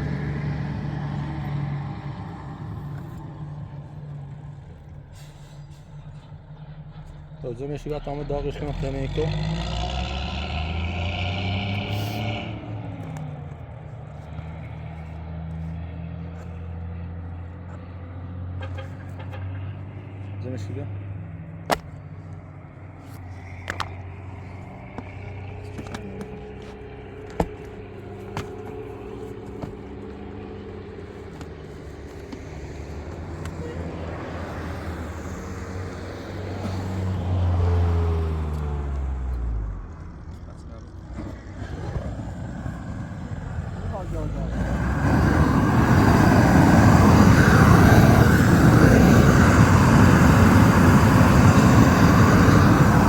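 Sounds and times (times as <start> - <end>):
gas torch roaring: 0.0 - 15.2, 23.0 - 38.6, 41.1 - 53.0
vehicle engine running: 0.0 - 53.0.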